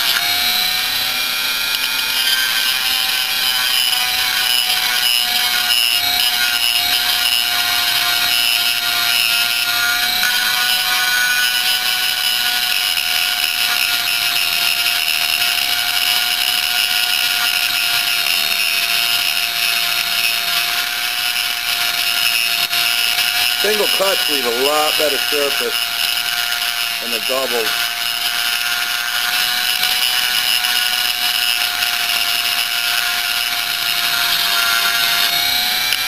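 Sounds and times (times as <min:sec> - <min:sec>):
rotary tool grinding metal: 0:00.0 - 0:36.0.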